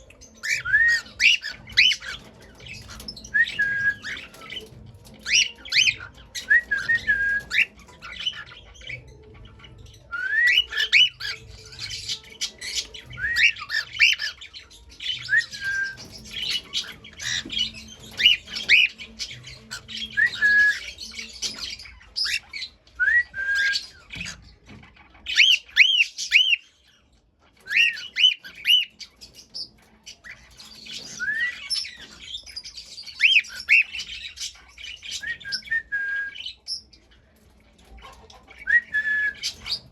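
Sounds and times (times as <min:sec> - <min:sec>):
cockatiels chirping and calling: 0:00.0 - 0:39.9.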